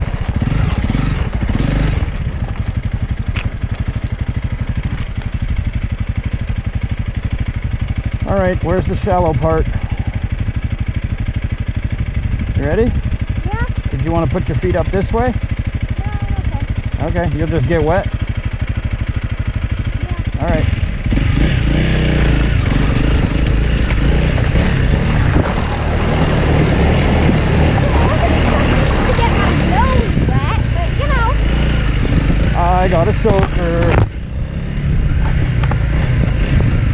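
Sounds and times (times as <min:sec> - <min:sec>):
small engine idling: 0:00.0 - 0:36.9.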